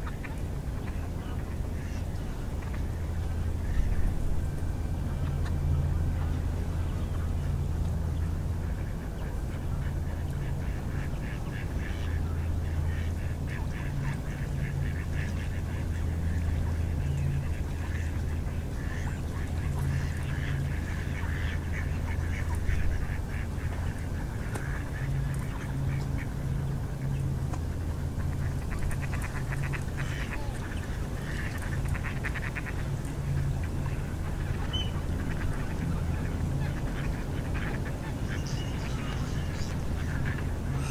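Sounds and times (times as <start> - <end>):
ducks chattering calls: 0.0 - 40.9
ducks quacking: 0.0 - 40.9
low steady rumble: 0.0 - 40.9.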